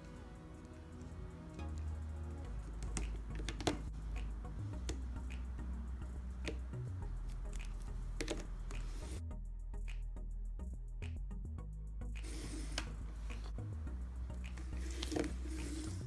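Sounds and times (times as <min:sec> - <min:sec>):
background music with low notes: 0:00.0 - 0:16.0.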